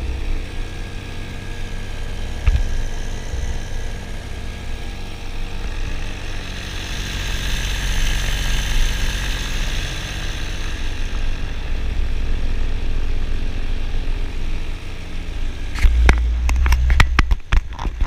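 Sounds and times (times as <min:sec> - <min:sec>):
low rumble: 0:00.0 - 0:18.0
paramotor engine droning: 0:00.0 - 0:18.0.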